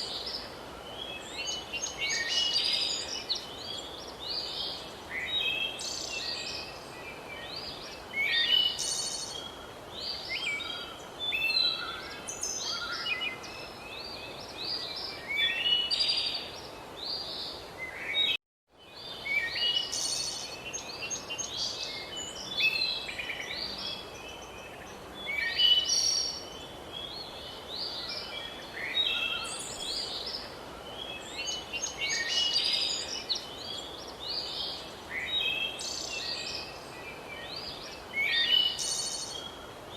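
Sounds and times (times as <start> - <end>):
background hiss: 0.0 - 39.9
birds singing and chirping: 1.0 - 39.8.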